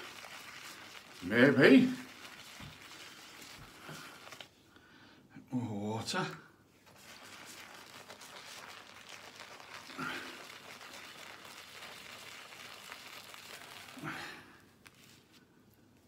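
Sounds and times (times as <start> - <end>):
shaving brush lathering soap: 0.0 - 4.6, 6.8 - 15.4.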